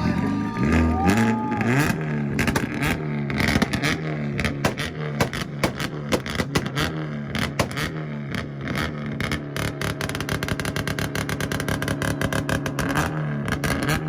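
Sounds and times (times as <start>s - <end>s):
car engine on rev limiter: 0.0s - 14.0s
exhaust pops and bangs: 1.6s - 14.0s.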